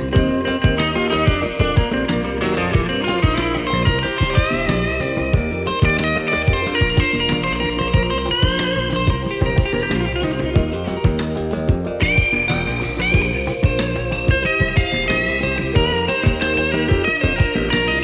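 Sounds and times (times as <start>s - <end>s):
bass guitar: 0.0s - 18.0s
drum beat: 0.0s - 18.0s
lead electric guitar: 0.0s - 18.0s.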